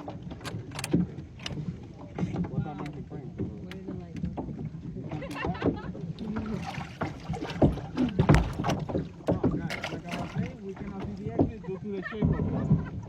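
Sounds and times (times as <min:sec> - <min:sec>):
knocks of paddles and hulls: 0:00.0 - 0:13.0
paddle splashes: 0:00.0 - 0:13.0.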